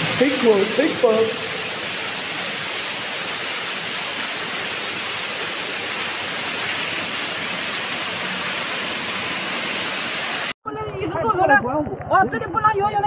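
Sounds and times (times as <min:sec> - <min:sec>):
floodwater rushing: 0:00.0 - 0:10.5.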